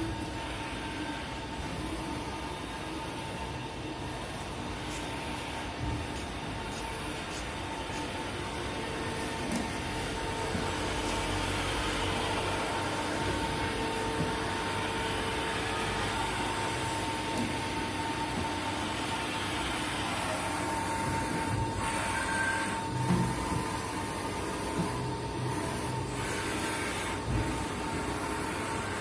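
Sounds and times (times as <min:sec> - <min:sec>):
machine whir and hiss: 0:00.0 - 0:29.0.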